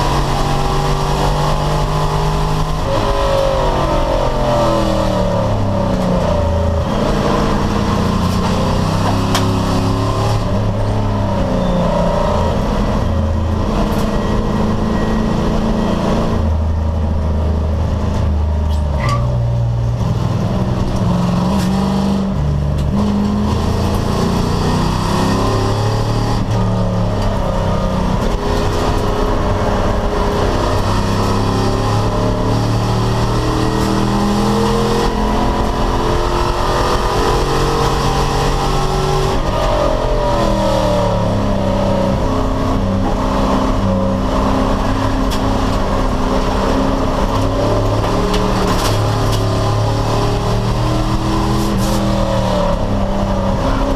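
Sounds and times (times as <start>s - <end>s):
race car engine shifting gears: 0.0s - 53.9s.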